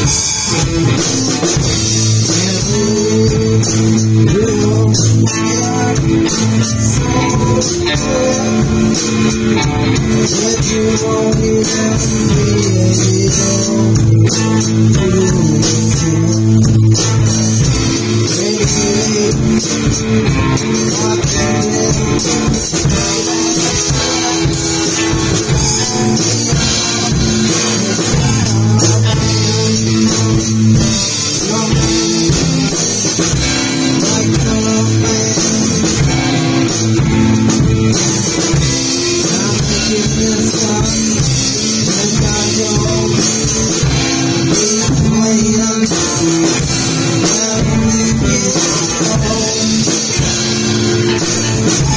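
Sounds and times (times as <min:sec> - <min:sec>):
drum kit: 0:00.0 - 0:51.9
electric guitars: 0:00.0 - 0:51.9
person singing into a microphone: 0:00.0 - 0:51.9.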